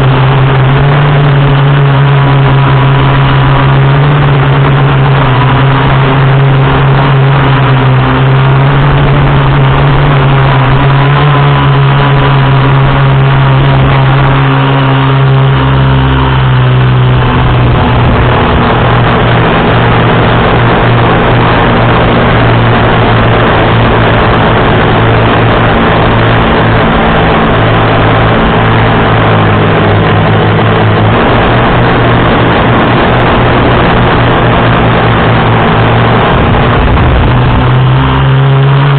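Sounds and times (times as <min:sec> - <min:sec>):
quadcopter propellers humming: 0:00.0 - 0:38.9.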